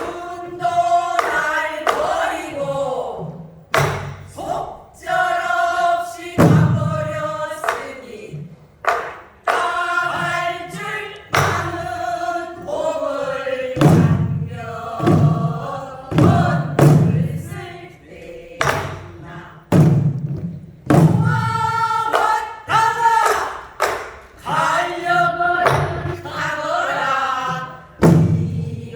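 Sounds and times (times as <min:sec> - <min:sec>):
barrel drum strokes: 0:00.0 - 0:23.2, 0:24.4 - 0:28.9
group singing folk song: 0:00.0 - 0:28.9.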